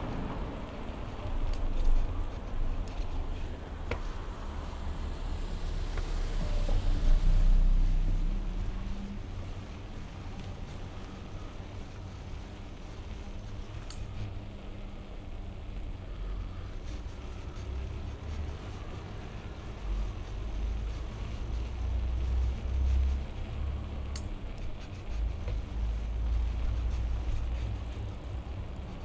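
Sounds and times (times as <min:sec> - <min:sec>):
faint steady hum: 0:00.0 - 0:29.0
road traffic rumble: 0:00.0 - 0:29.0.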